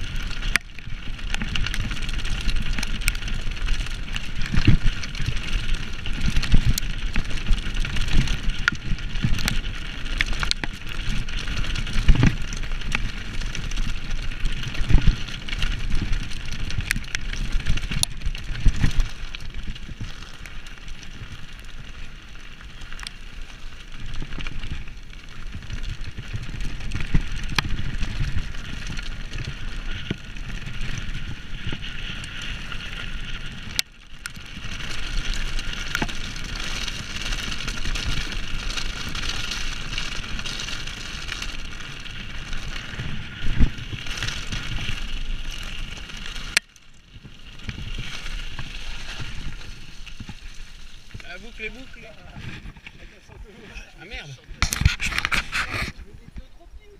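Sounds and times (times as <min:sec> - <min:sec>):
bike frame and chain rattling: 0:00.0 - 0:56.6
bike tyres crunching on stony trail: 0:00.0 - 0:56.9.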